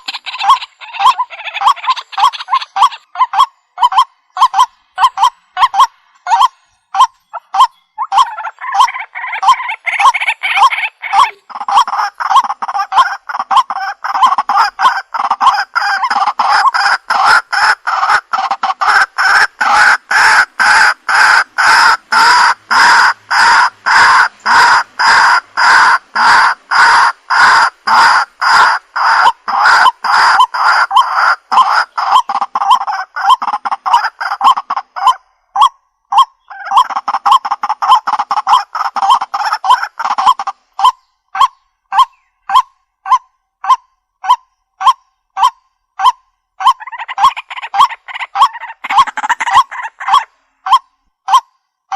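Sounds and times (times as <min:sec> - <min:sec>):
waterhen calling: 0:00.0 - 0:51.5.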